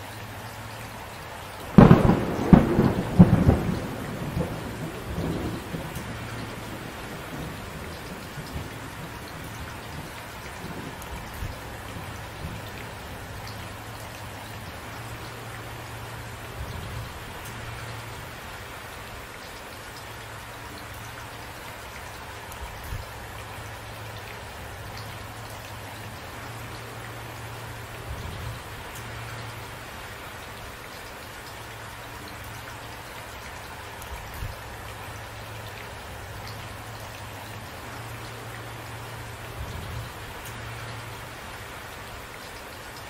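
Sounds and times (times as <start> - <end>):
rain falling: 0.0 - 43.0.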